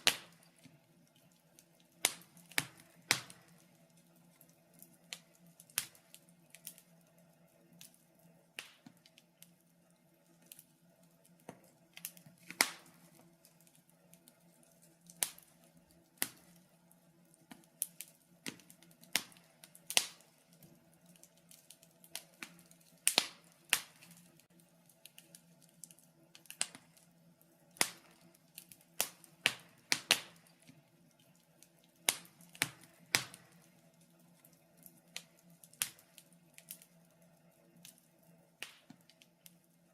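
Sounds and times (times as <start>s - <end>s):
wood fire crackling in fireplace: 0.0s - 39.9s.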